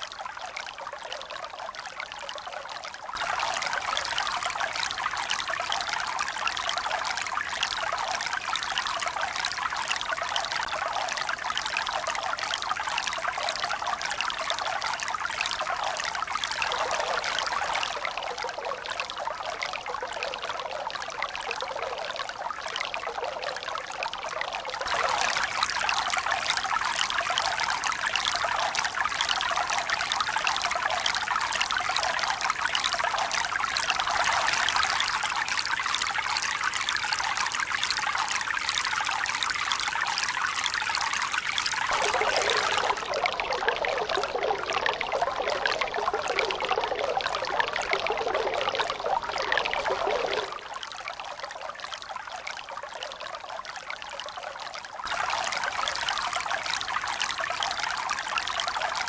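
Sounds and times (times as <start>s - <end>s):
running water splashing and trickling: 0.0s - 59.0s.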